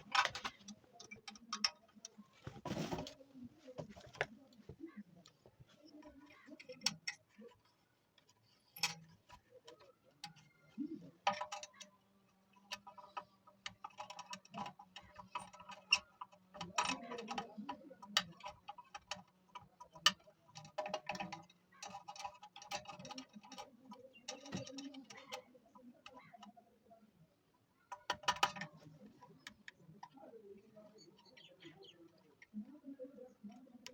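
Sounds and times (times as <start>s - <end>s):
small parts and tools clicking: 0.0s - 3.2s, 3.8s - 33.9s.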